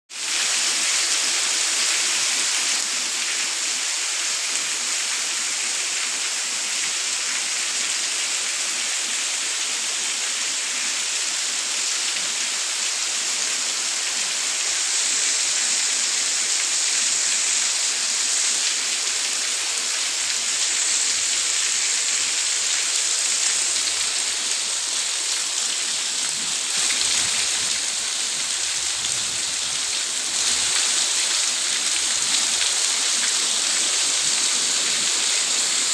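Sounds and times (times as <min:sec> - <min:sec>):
rain falling: 0:00.2 - 0:35.9.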